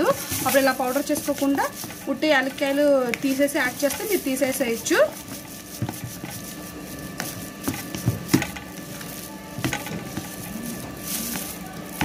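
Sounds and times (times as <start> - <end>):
spoon scraping a plastic pot: 0.0 - 12.0.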